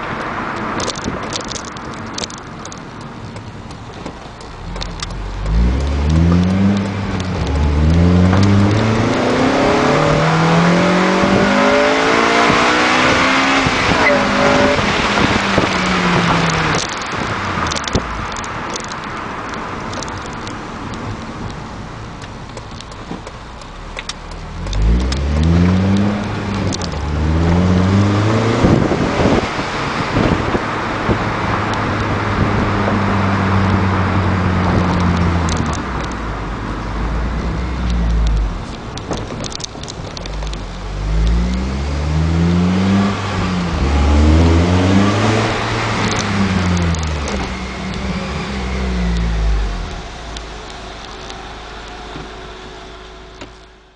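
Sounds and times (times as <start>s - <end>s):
car engine accelerating hard: 4.4s - 21.5s, 23.8s - 53.9s.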